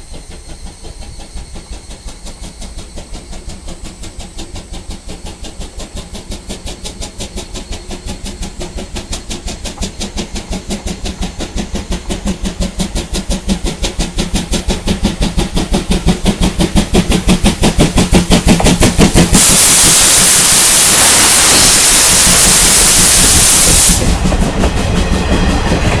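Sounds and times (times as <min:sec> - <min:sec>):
loud steam hiss: 0:00.0 - 0:26.0
steam locomotive exhaust chuffs: 0:00.0 - 0:26.0.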